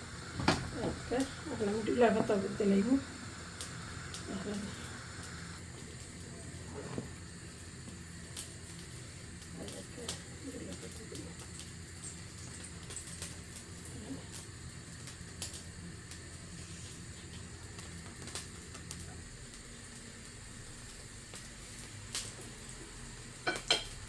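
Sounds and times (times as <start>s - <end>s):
low steady hum: 0.0s - 21.9s
pot bubbling: 0.0s - 24.0s.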